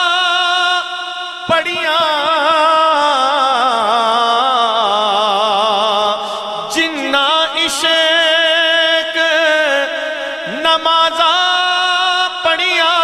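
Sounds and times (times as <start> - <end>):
man singing wordless phrases: 0.0 - 13.0.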